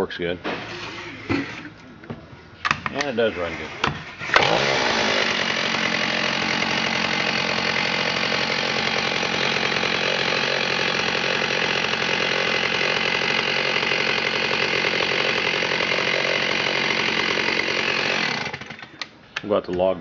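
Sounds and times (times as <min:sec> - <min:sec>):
chainsaw engine running: 0:03.0 - 0:19.0.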